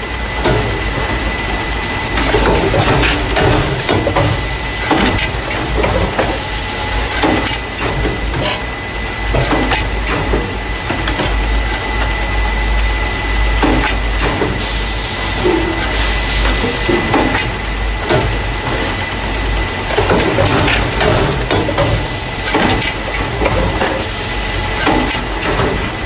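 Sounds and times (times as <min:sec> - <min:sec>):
machine clattering: 0:00.3 - 0:12.4, 0:13.4 - 0:26.0.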